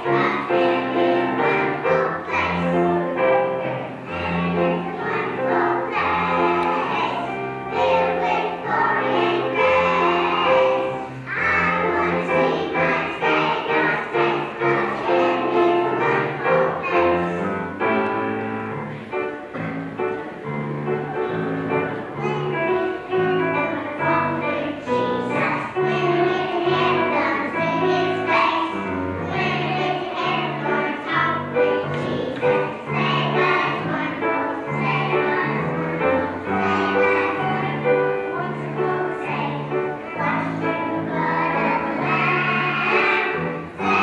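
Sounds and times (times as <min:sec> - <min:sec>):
children's choir singing: 0:00.0 - 0:44.0.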